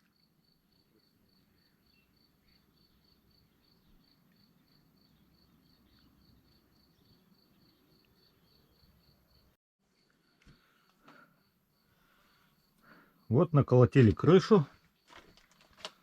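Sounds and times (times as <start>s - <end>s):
faint cricket chirping: 0.0s - 15.5s.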